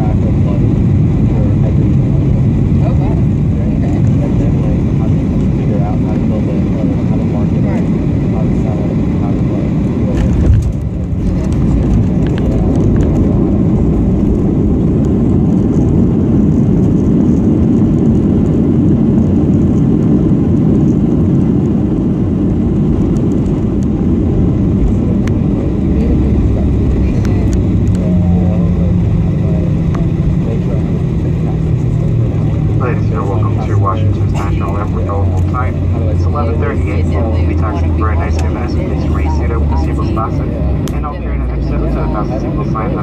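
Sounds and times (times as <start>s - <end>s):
jet engine cabin rumble: 0.0s - 43.0s
steady hum: 0.0s - 43.0s.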